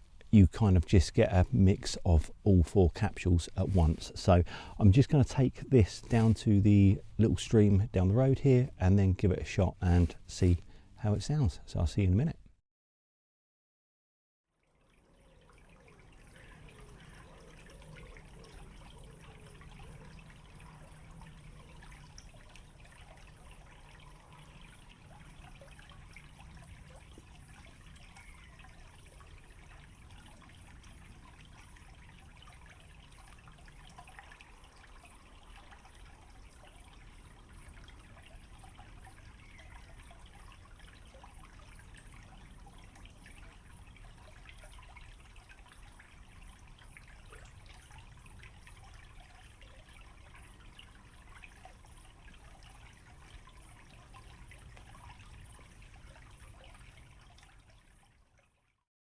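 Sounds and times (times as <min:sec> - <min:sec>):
stream trickling and babbling: 0:00.0 - 0:12.6, 0:14.5 - 0:58.9.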